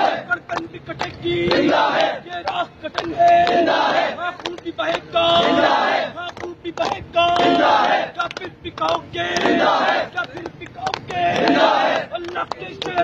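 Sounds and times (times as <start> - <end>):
crowd of men chanting: 0.0 - 13.0.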